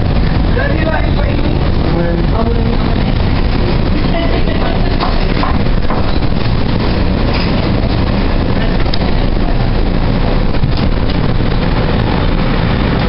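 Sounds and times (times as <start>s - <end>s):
light-rail car rumbling: 0.0s - 13.0s.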